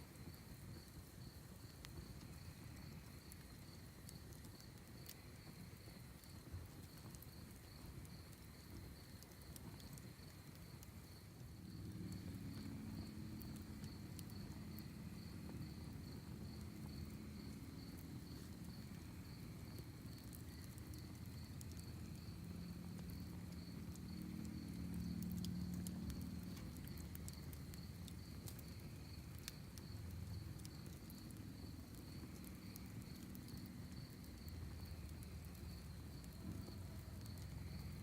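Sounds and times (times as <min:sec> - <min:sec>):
wood fire crackling: 0:00.0 - 0:38.0
crickets chirping: 0:00.1 - 0:38.0.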